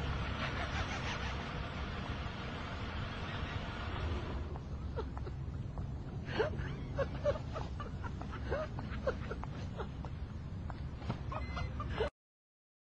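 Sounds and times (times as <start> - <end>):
low steady rumble: 0.0 - 12.1.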